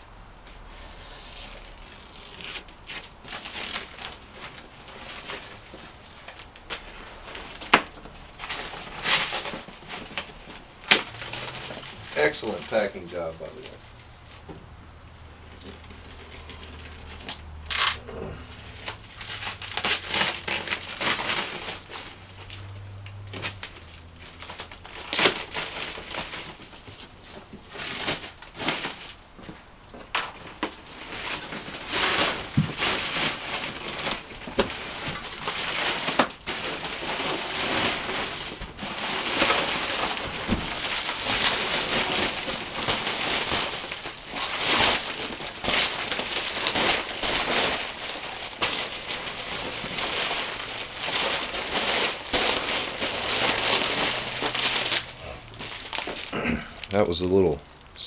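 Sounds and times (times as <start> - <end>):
plastic wrap crinkling and rustling: 0.0 - 57.8.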